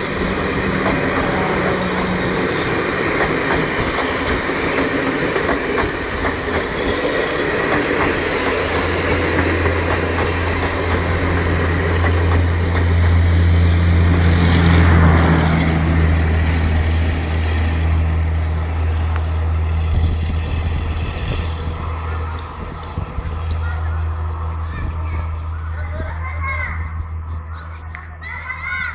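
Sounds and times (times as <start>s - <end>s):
train wheels rumbling on rails: 0.0s - 28.8s.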